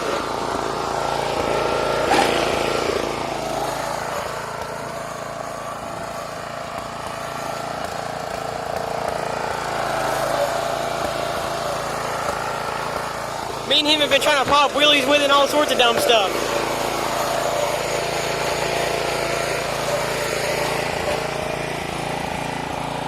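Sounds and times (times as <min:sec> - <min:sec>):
riding mower engine running: 0:00.0 - 0:23.0.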